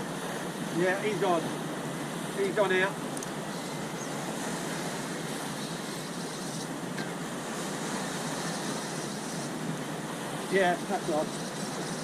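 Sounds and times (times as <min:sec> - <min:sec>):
sea and wind noise: 0:00.0 - 0:12.0.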